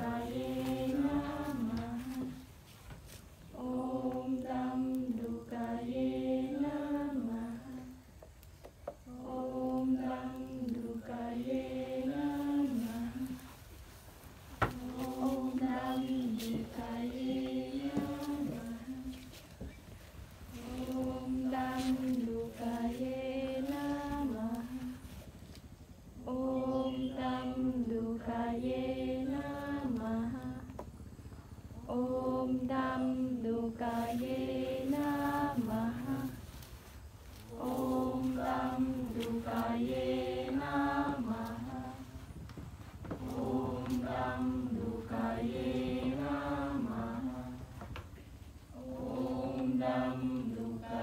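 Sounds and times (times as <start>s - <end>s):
group chanting a mantra: 0.0s - 51.0s.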